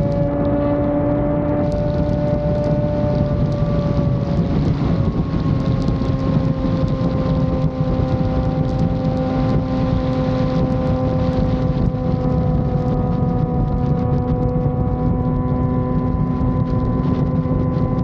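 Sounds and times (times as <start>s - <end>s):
motorcycle engine cruising: 0.0s - 18.0s
wind rumbling on microphone: 0.0s - 18.0s.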